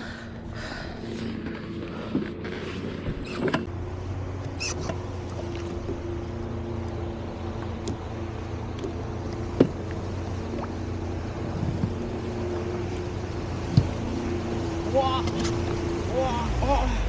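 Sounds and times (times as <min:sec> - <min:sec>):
jet ski engine idling: 0:00.0 - 0:17.0.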